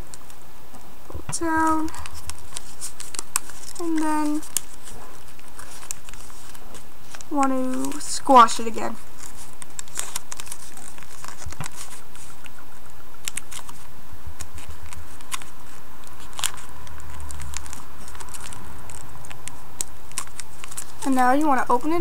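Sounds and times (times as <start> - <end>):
paper crinkling while folded: 1.4 - 22.0.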